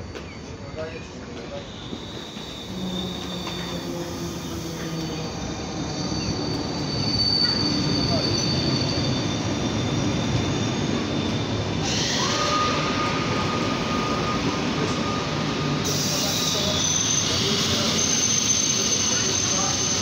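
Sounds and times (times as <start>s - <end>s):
high squeal of wheels and brakes: 0.0s - 20.0s
steady squeal tone: 0.0s - 20.0s
train wheels rumbling: 0.0s - 20.0s.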